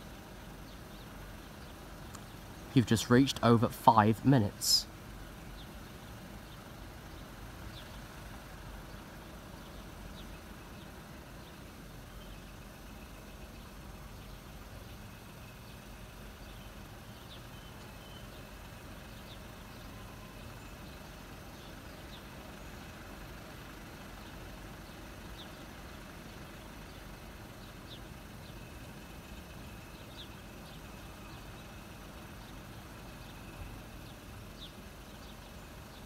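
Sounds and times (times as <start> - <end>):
faint bird chirps: 5.5 - 36.0.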